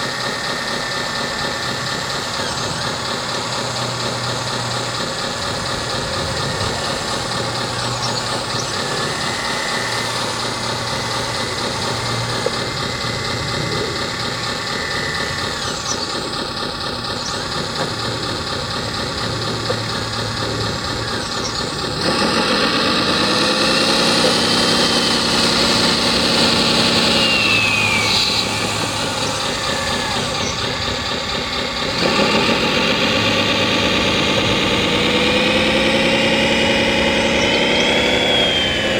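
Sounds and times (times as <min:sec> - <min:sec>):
model excavator engine drone: 0:00.0 - 0:38.9
rising and falling whine: 0:00.0 - 0:38.9.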